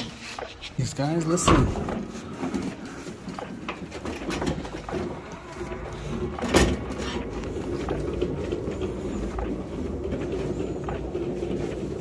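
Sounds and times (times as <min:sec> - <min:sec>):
cart casters rolling and rattling: 0:00.0 - 0:12.0.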